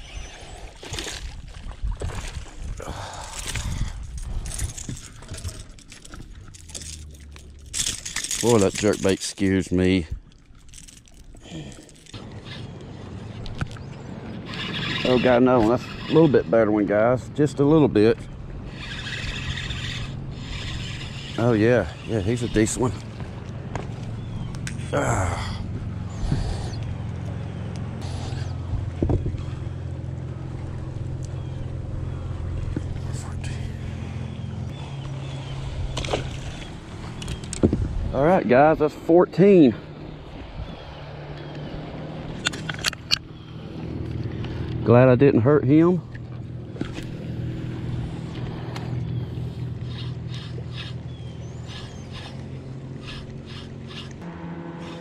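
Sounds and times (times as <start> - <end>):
boat motor humming: 0.0 - 55.0.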